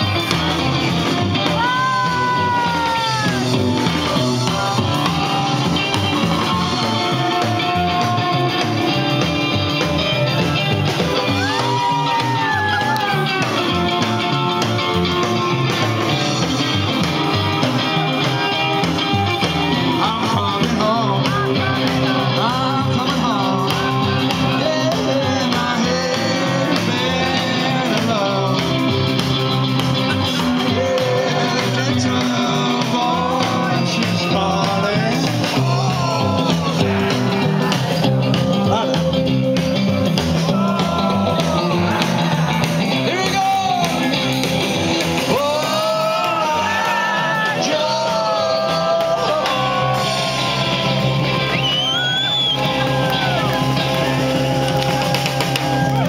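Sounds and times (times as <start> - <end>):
lead singer singing: 0.0 - 44.4, 45.1 - 56.0
people singing along and shouting: 0.0 - 56.0
rock band playing: 0.0 - 56.0.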